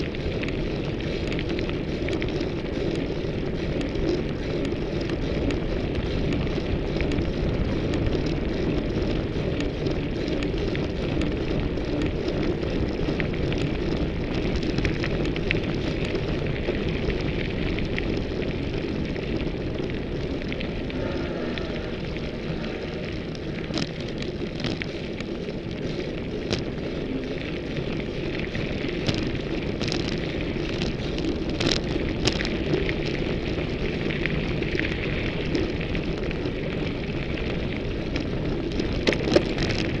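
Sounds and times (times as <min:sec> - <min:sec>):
bike clicks and rattles: 0:00.0 - 0:40.0
gritty crackle: 0:00.0 - 0:40.0
wind and tyres rumbling on trail: 0:00.0 - 0:40.0.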